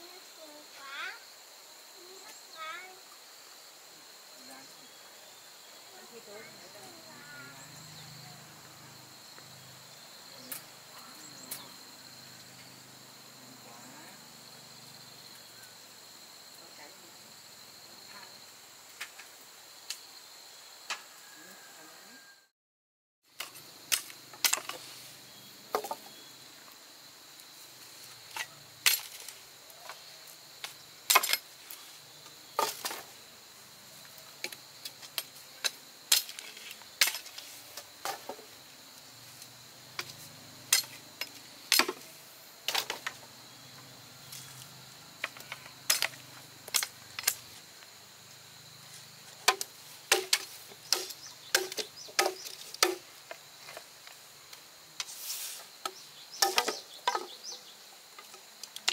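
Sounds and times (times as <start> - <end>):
high-pitched insect drone: 0.0 - 22.5, 23.4 - 58.9.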